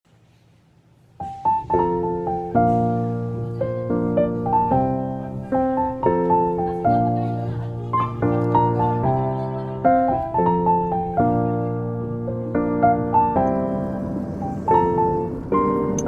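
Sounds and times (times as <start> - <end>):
piano music: 1.2 - 16.0.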